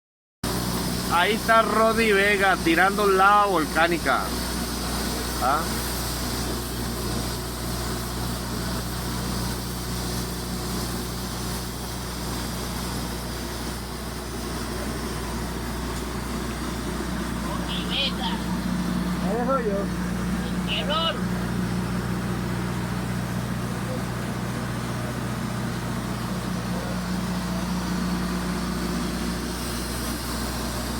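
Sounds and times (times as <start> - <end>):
welding arc crackling hiss: 0.5 - 30.9
welding machine low hum: 0.5 - 30.9.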